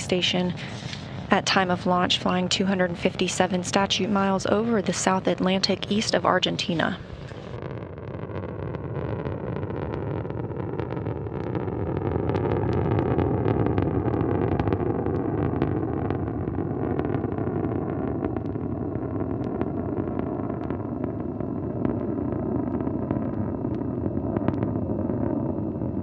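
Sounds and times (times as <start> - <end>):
rocket engines rumbling and crackling: 0.0 - 26.0.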